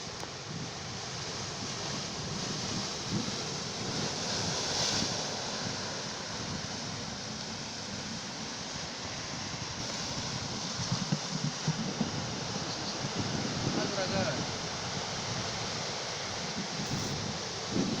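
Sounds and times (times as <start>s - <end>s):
sea waves surf rushing: 0.0s - 18.0s
wind buffeting microphone: 0.2s - 7.1s, 9.5s - 18.0s.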